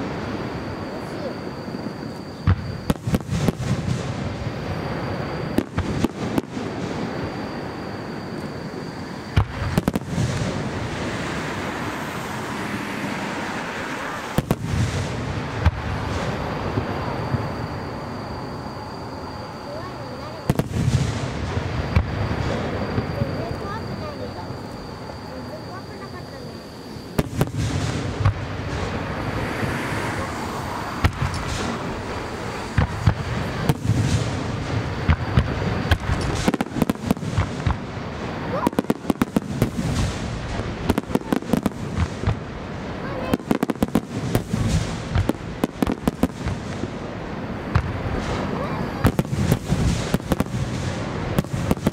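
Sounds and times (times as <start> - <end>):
continuous rumble: 0.0 - 51.9
fireworks bangs: 0.0 - 51.9
fireworks crackling: 0.0 - 51.9.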